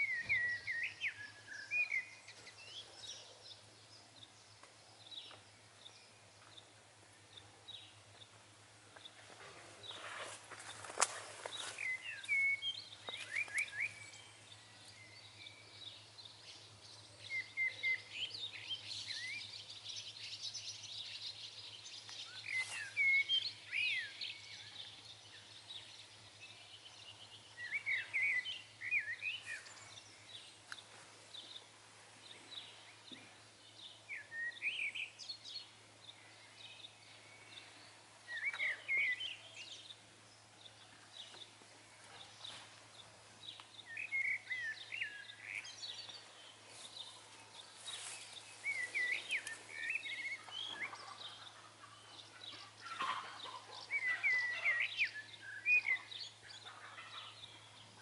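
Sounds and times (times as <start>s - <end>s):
high twittering of birds: 0.0s - 58.0s.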